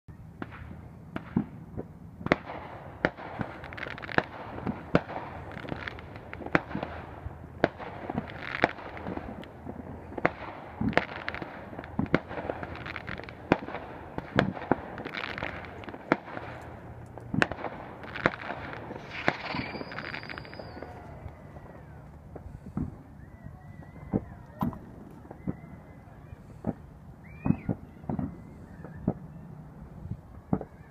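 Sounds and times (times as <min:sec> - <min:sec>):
steady background noise: 0:00.1 - 0:30.9
fireworks bursting: 0:00.3 - 0:30.9.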